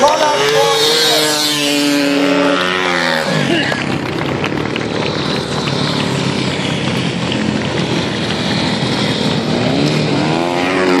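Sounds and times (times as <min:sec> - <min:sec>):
motorcycle accelerating: 0:00.0 - 0:11.0
racing motorcycles passing: 0:00.0 - 0:11.0.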